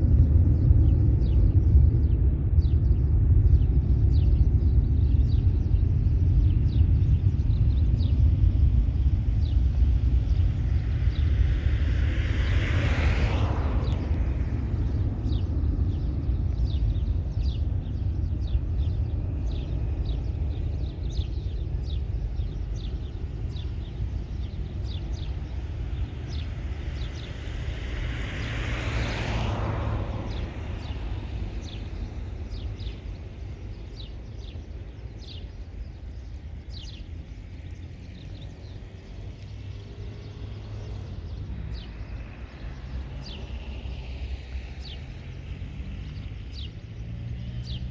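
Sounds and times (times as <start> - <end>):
distant jet engines rumbling: 0.0 - 47.9.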